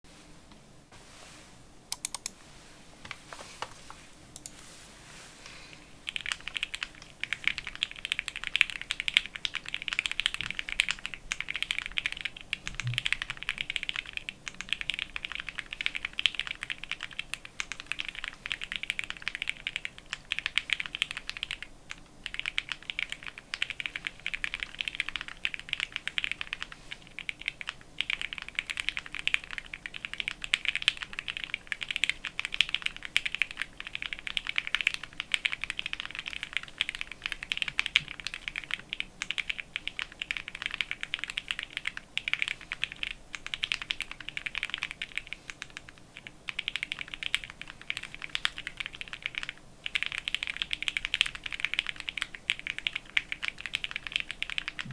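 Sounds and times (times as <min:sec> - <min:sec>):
mechanical keyboard typing: 0:01.9 - 0:02.4, 0:06.1 - 0:54.9.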